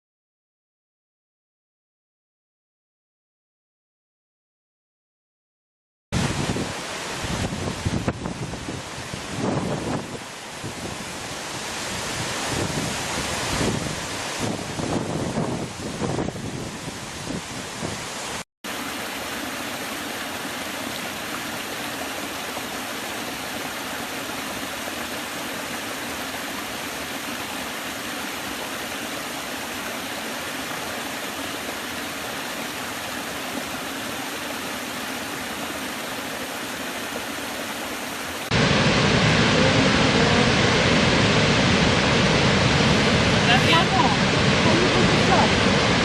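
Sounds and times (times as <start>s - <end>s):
deeper rush of water: 6.2s - 46.0s
waterfall rushing: 6.2s - 46.0s.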